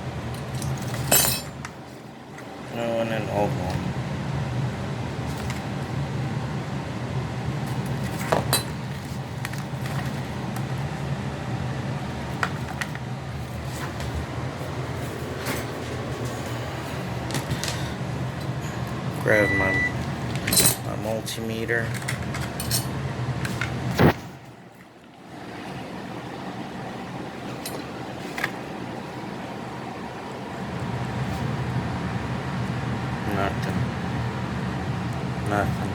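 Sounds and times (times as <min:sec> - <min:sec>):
low mechanical hum: 0:00.0 - 0:35.9.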